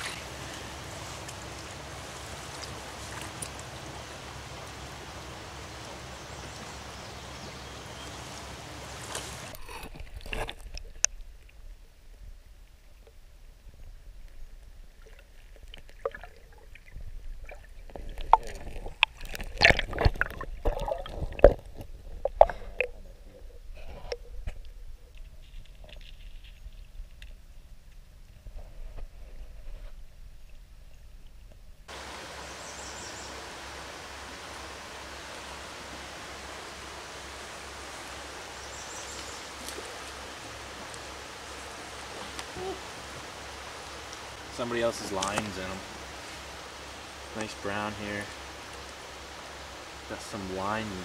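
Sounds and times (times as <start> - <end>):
stream flowing: 0.0 - 28.4, 30.5 - 51.0.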